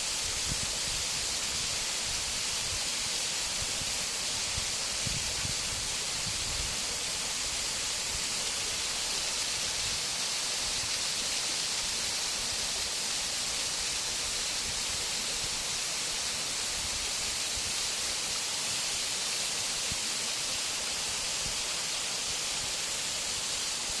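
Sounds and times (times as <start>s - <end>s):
waterfall rushing: 0.2s - 24.0s.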